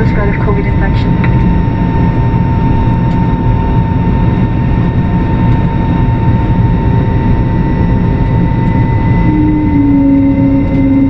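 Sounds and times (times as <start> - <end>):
jet engine high whine: 0.0 - 11.0
jet engine rumble: 0.0 - 11.0.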